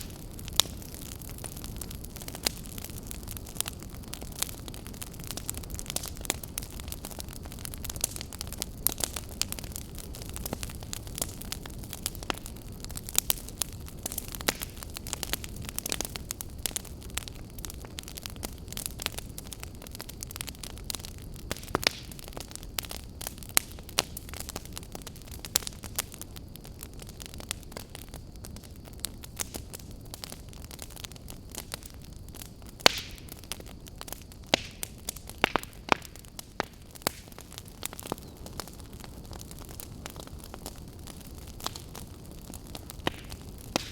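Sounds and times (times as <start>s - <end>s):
campfire crackles and pops: 0.0s - 43.9s
low rumble of flames: 0.0s - 43.9s.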